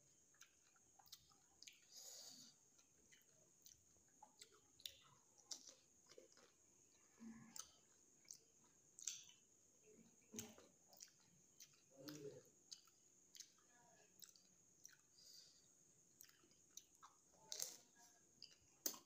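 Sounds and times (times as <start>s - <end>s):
crunching and wet chewing: 0.0s - 19.0s.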